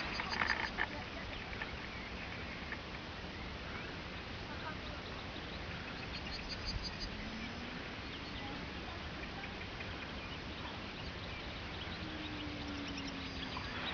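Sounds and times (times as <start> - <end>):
small bird chirping: 0.0 - 13.9
steady background hiss: 0.0 - 13.9.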